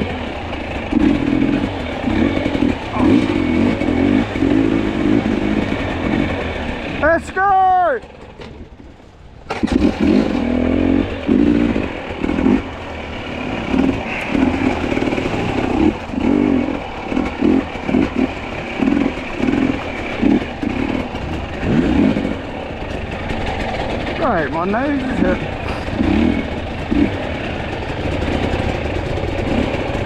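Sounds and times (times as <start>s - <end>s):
two-stroke dirt bike revving: 0.0s - 7.4s, 9.5s - 30.0s.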